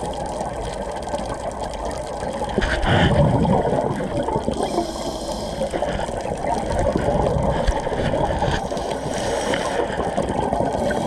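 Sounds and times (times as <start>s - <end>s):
underwater regulator bubbles: 0.0s - 11.0s.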